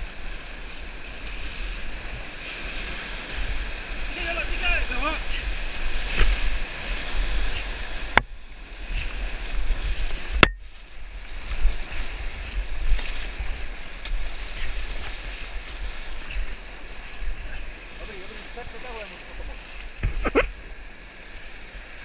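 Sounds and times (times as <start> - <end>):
whitewater rapids rushing: 0.0 - 21.0
paddles splashing: 0.0 - 22.0.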